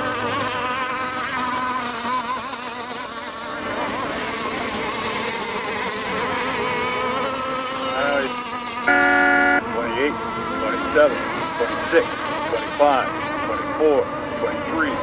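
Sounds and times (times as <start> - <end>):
model racing boat motors whining: 0.0 - 15.0.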